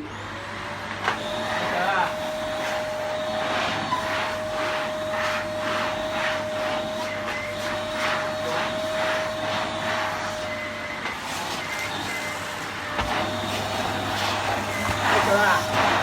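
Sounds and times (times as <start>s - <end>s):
vacuum cleaner motor whine: 0.0s - 16.0s
vacuum sucking up cereal: 0.9s - 16.0s.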